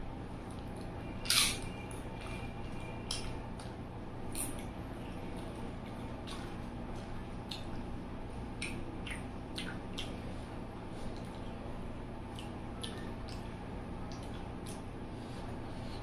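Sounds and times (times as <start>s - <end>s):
low background hum: 0.0s - 16.0s
person chewing with clicks and smacks: 0.4s - 11.6s, 12.2s - 15.0s.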